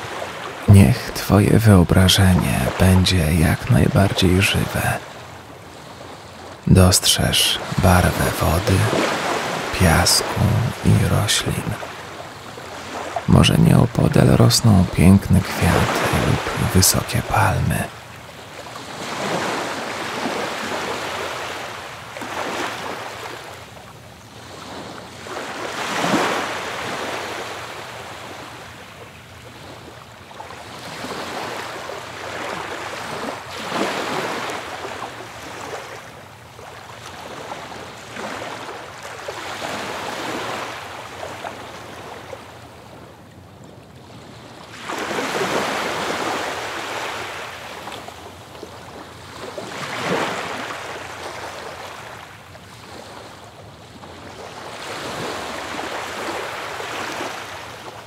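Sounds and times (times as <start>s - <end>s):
ocean waves breaking: 0.0s - 43.3s, 44.0s - 58.0s.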